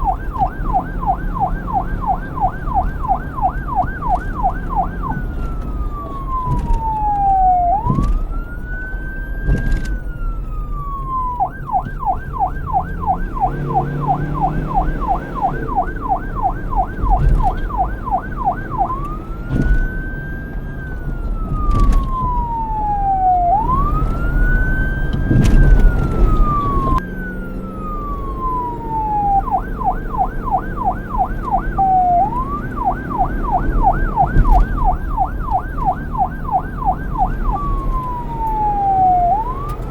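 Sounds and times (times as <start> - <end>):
police siren wail and yelp: 0.0 - 39.9.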